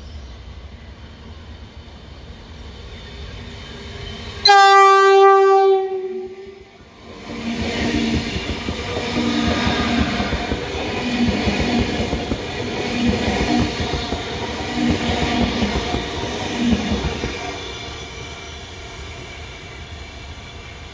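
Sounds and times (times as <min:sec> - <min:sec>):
electric train passing: 0:00.0 - 0:20.9.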